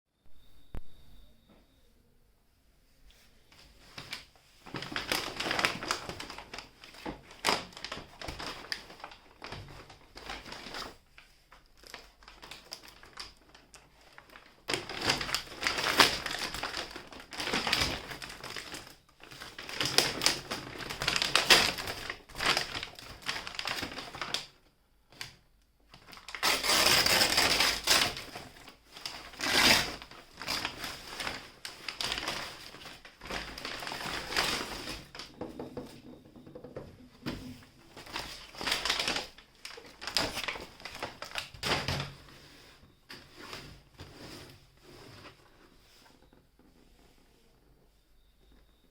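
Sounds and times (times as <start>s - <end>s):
paper and cardboard rustling: 3.6s - 24.5s, 26.0s - 36.4s, 37.2s - 47.1s.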